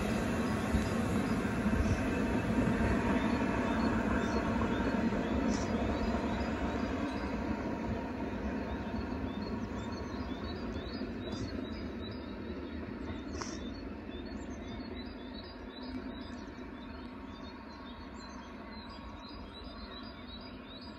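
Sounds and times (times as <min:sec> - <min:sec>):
steam locomotive rumble: 0:00.0 - 0:16.9
small birds chirping: 0:00.0 - 0:20.9.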